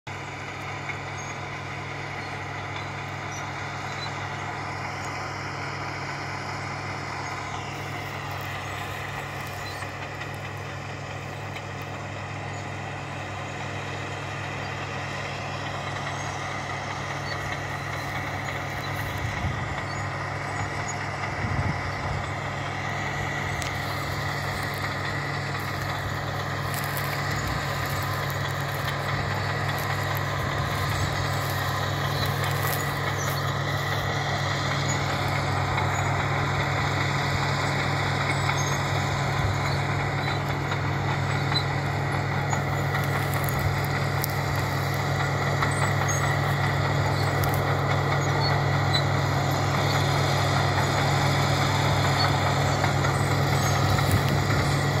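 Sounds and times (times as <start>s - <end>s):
tractor diesel engine running: 0.0s - 55.0s
high steady whine: 0.2s - 50.0s.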